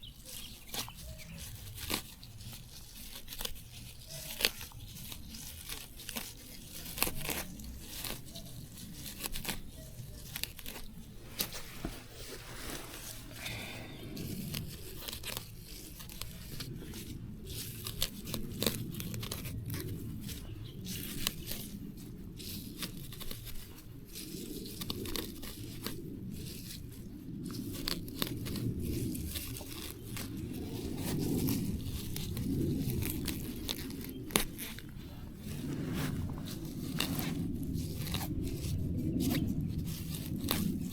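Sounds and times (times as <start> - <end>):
plants tearing and crunching: 0.0 - 40.9
plant stems snapping: 0.2 - 11.6, 13.0 - 21.7, 22.4 - 26.8, 27.5 - 40.9.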